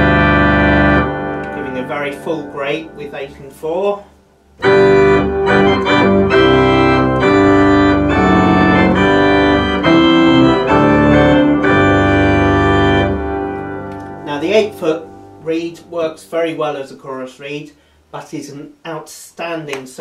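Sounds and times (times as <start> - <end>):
organ playing loud chords: 0.0 - 16.6.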